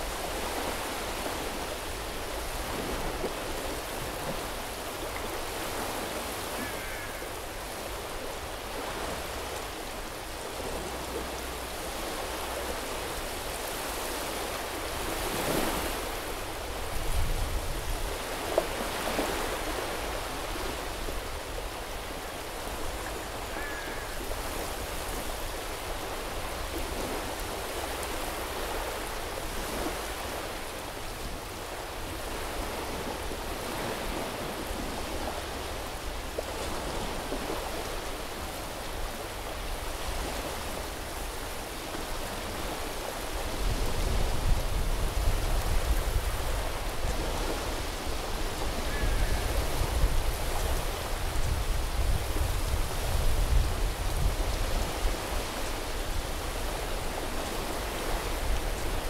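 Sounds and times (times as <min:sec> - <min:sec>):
sea surf on beach: 0:00.0 - 0:59.0.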